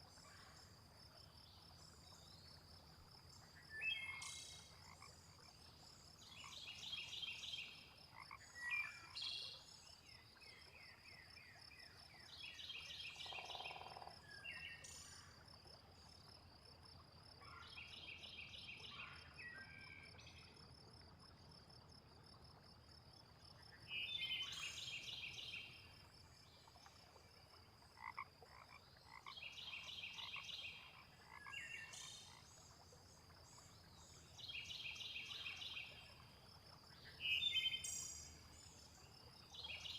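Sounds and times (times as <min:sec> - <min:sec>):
frogs croaking: 0:01.7 - 0:10.9, 0:13.2 - 0:17.6, 0:20.6 - 0:39.9.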